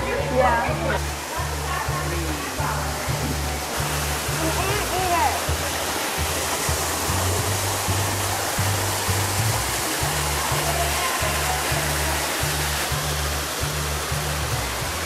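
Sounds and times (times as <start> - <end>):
music with pulsing bass: 0.0 - 15.0
waterfall splashing: 0.0 - 15.0.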